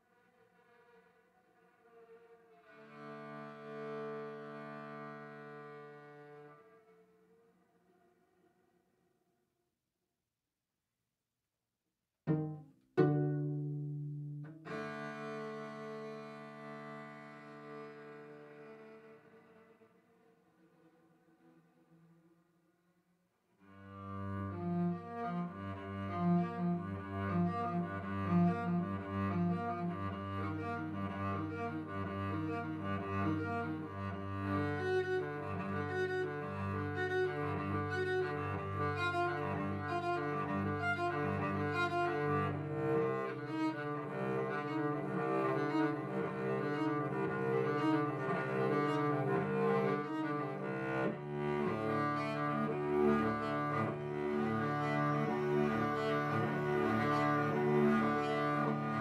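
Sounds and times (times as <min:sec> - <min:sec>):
bowed cello: 0:00.0 - 0:09.0, 0:12.3 - 0:59.0.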